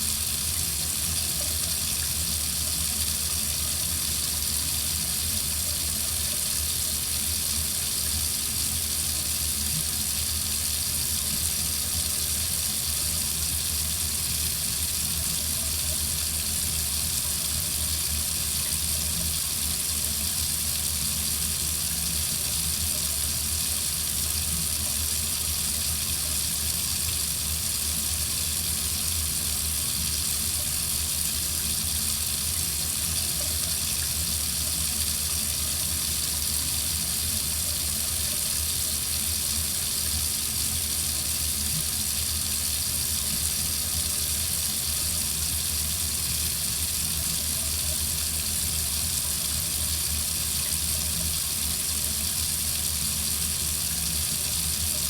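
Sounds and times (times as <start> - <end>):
water running from a faucet: 0.0 - 55.0.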